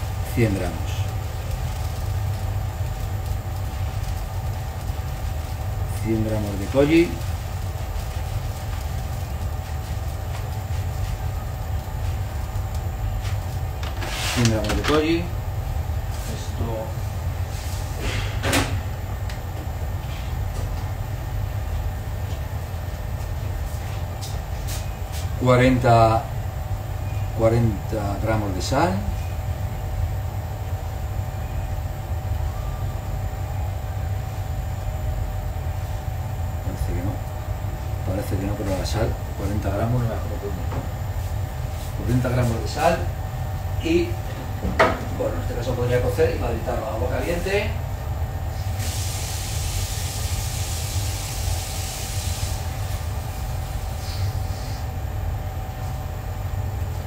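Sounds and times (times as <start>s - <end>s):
faint constant whine: 0.0s - 57.0s
kitchen machinery humming: 0.0s - 57.0s.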